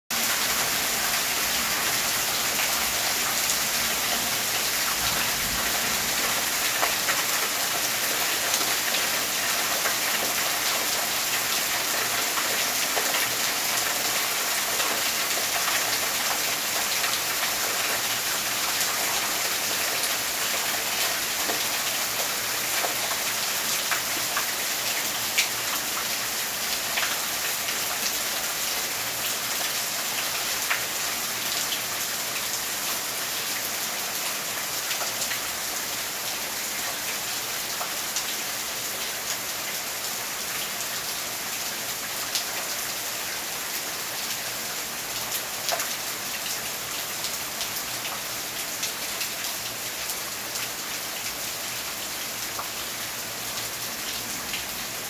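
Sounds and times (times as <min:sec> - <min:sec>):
heavy rain falling: 0:00.1 - 0:55.0.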